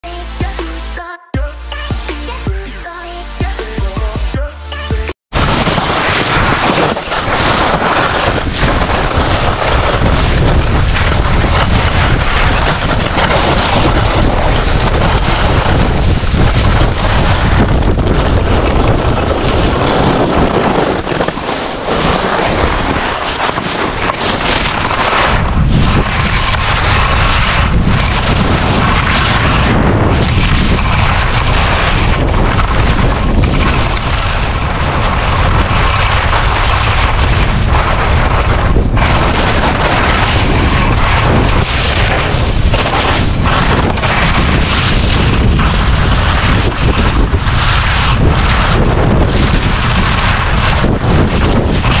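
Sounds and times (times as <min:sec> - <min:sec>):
wind buffeting microphone: 0:05.3 - 0:52.0
skis scraping on snow: 0:05.4 - 0:52.0.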